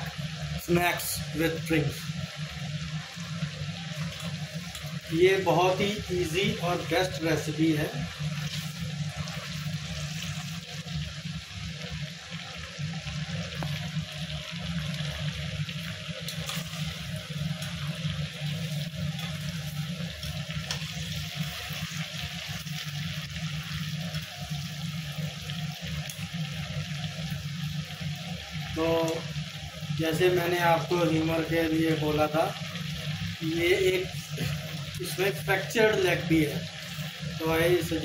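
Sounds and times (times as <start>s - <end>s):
chicken frying in oil: 0.0s - 38.0s.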